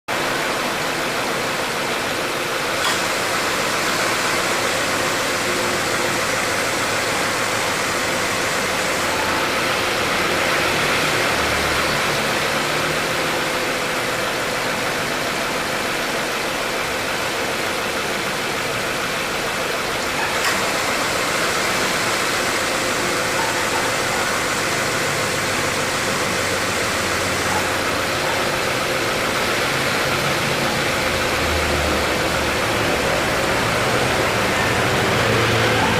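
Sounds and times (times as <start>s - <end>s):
car engine idling hiss: 0.2s - 35.9s.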